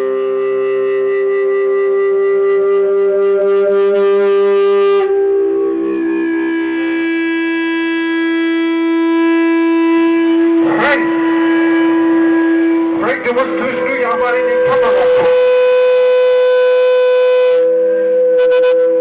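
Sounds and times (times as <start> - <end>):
music of long held notes: 0.0 - 19.0.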